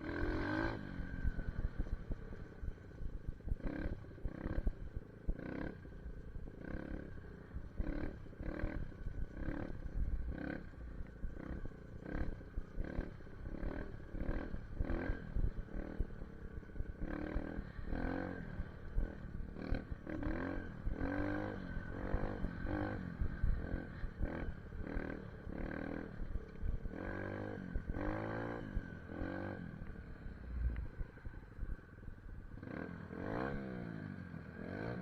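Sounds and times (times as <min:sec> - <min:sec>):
motorbike engine revving: 0:00.0 - 0:02.4, 0:03.5 - 0:05.9, 0:06.6 - 0:16.0, 0:17.0 - 0:29.8, 0:32.6 - 0:35.0.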